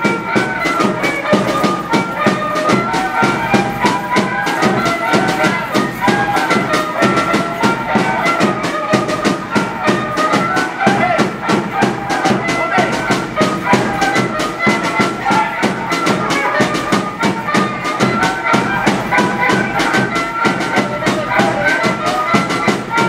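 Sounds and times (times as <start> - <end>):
fast steady drumbeat: 0.0 - 23.0
high melody line: 0.0 - 23.0.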